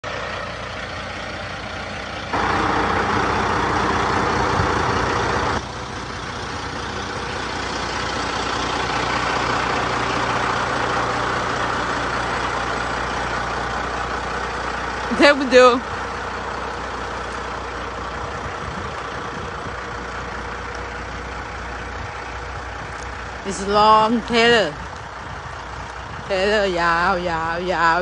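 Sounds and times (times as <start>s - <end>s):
heavy diesel truck engine: 0.0s - 28.0s
truck rolling noise: 0.0s - 28.0s.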